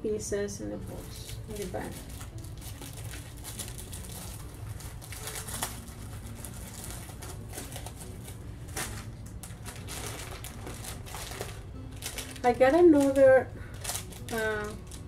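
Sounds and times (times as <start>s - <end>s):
packaging rustling: 0.9s - 15.0s.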